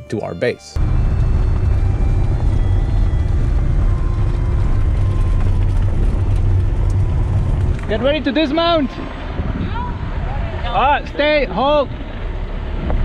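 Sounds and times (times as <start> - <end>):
vehicle engine low rumble: 0.8 - 13.0.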